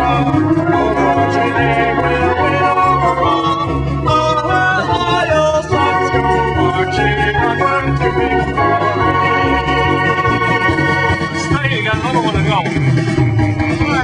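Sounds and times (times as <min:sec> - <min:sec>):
organ playing chords: 0:00.0 - 0:14.0.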